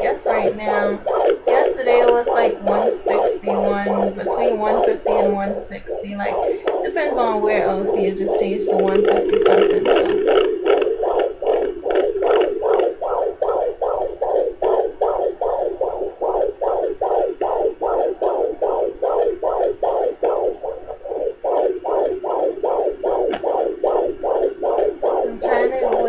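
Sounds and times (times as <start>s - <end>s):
fetal heartbeat whooshing pulses: 0.0s - 26.0s.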